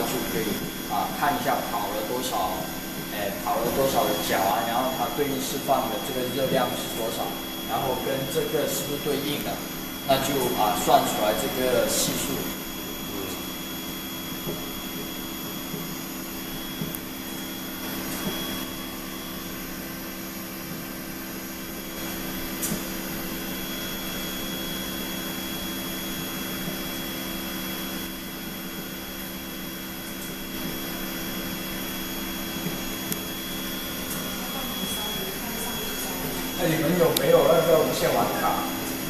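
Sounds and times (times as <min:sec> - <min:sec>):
exhaust fan and burner whir: 0:00.0 - 0:39.0
steady hum: 0:00.0 - 0:39.0.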